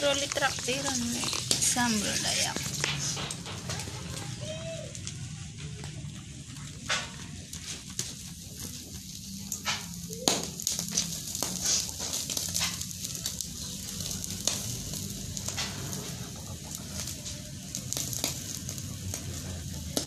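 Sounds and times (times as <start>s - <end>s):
crackles and pops: 0.0s - 20.0s
squid sizzling on a grill: 0.0s - 20.0s.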